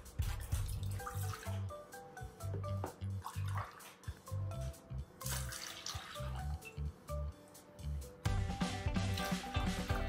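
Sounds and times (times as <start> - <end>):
background music with bass beat: 0.0 - 5.2, 6.2 - 10.0.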